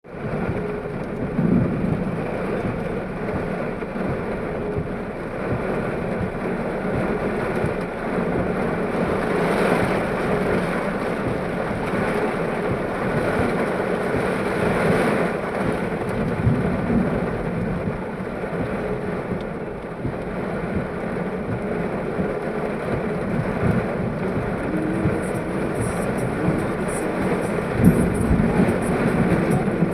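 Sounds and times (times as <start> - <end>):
heavy rain: 0.0 - 29.9
vehicle on wet road: 0.0 - 29.9.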